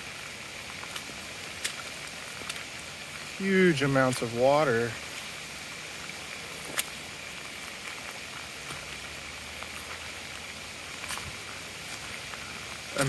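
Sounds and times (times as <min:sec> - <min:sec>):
water hissing: 0:00.0 - 0:13.0.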